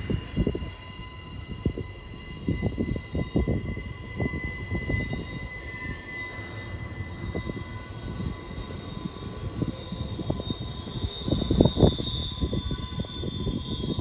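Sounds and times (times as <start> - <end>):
wheel flanges squealing: 0.1 - 14.0.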